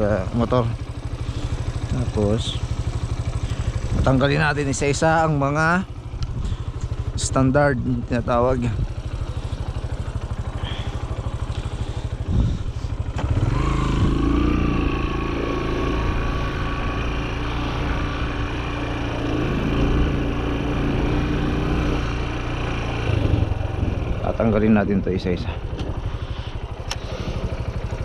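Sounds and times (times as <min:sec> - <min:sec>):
motorbike engine: 0:00.0 - 0:28.0.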